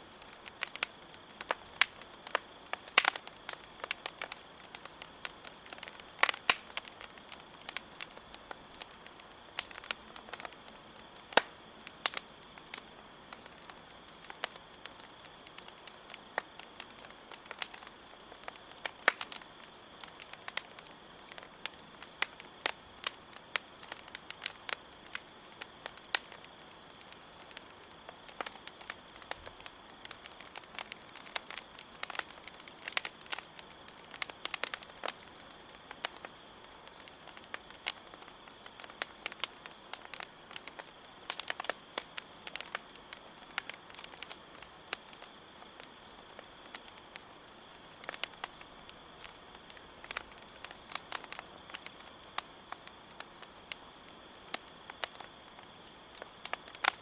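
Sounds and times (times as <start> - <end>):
campfire crackling and popping: 0.0 - 57.0
crickets chirring: 0.0 - 57.0.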